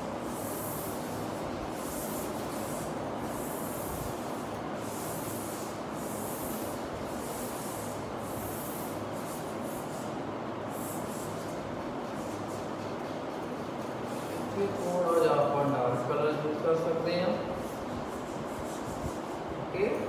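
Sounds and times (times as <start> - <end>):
chalk scratching on blackboard: 0.0 - 20.0.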